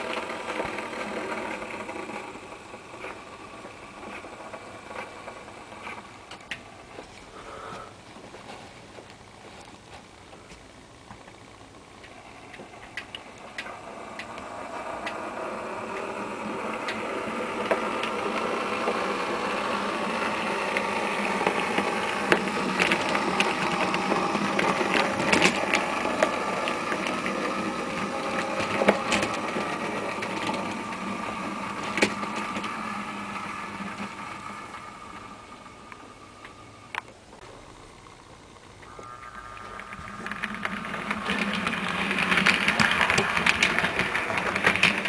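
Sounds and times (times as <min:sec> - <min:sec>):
model train electric motor: 0:00.0 - 0:08.4, 0:10.4 - 0:45.0
wheels clicking on rails: 0:00.0 - 0:45.0.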